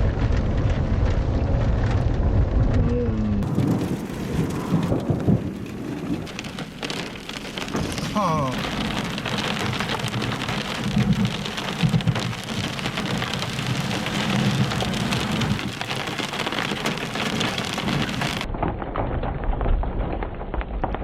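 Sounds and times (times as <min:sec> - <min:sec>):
heavy rain pattering: 0:00.0 - 0:21.0
thunder rumbling: 0:00.0 - 0:21.0.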